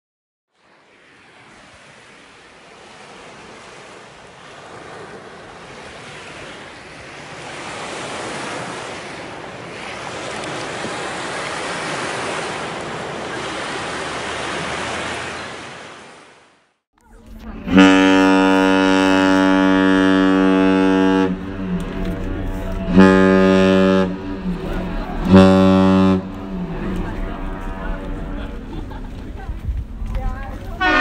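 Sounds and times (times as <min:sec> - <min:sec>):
ocean waves breaking: 0:00.5 - 0:31.0.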